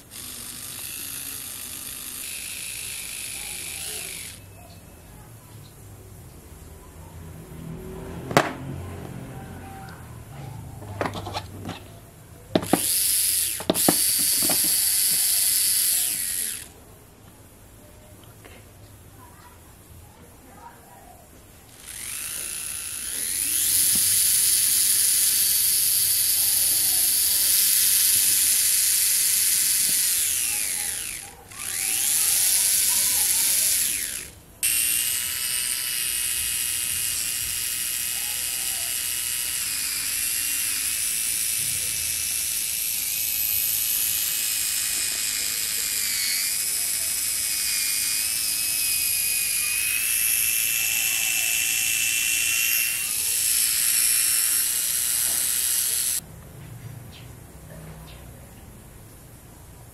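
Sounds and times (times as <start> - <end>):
small motor gear whine: 0.0 - 5.3, 6.6 - 16.8, 21.7 - 56.2.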